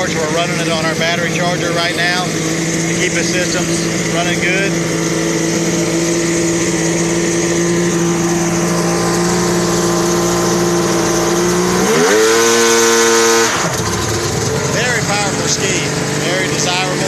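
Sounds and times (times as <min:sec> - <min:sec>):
jet ski engine idling and revving: 0:00.0 - 0:17.0.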